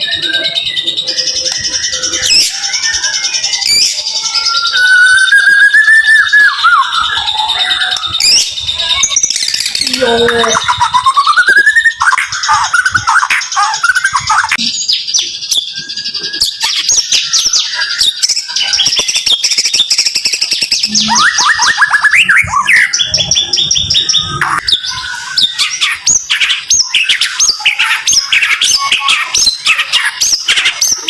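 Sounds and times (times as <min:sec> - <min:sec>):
bird singing whistled notes: 0:00.0 - 0:31.0.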